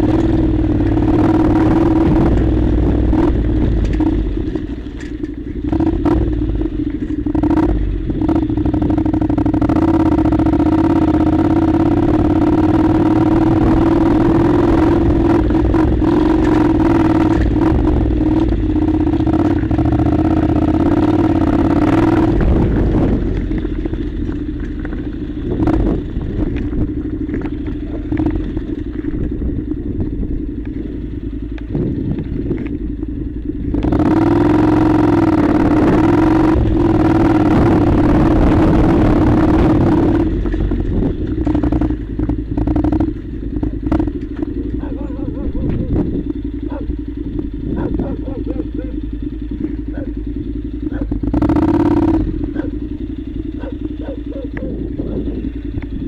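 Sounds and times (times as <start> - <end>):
gravel clattering: 0.0 - 56.0
motorcycle engine running: 0.0 - 56.0.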